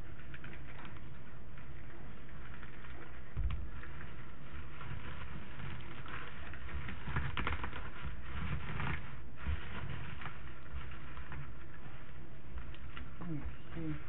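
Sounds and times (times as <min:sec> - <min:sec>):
dried herbs crackling: 0:00.0 - 0:14.0.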